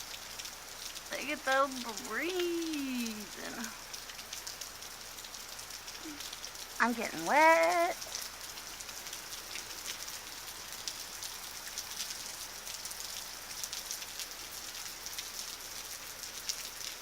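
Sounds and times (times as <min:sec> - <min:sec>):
heavy rain falling: 0:00.0 - 0:17.0
raindrops ticking nearby: 0:00.0 - 0:17.0.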